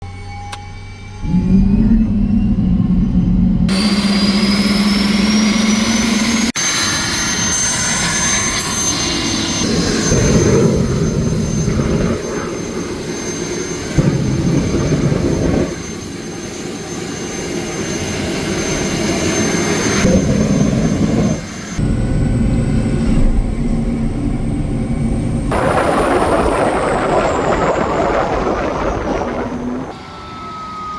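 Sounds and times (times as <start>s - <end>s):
turbine engine whine: 0.0s - 30.9s.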